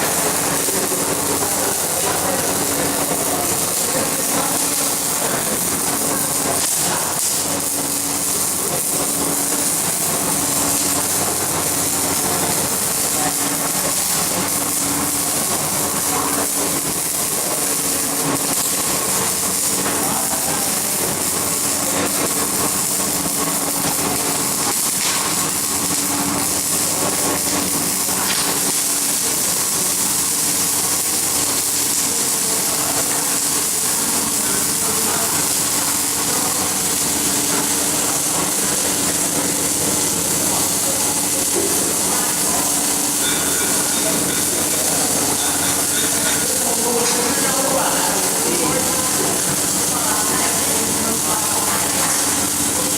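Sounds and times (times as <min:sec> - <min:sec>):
steady hum: 0:00.0 - 0:52.9
welding arc hiss: 0:00.0 - 0:52.9.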